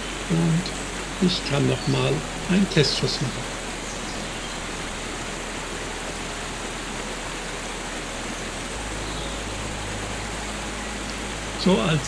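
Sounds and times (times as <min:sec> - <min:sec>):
waterfall and stream rushing: 0:00.0 - 0:12.0.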